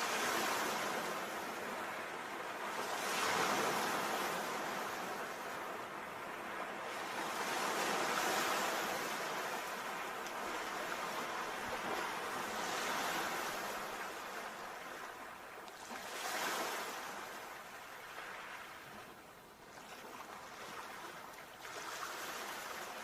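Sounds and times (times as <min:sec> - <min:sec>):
sea surf washing ashore: 0:00.0 - 0:23.0.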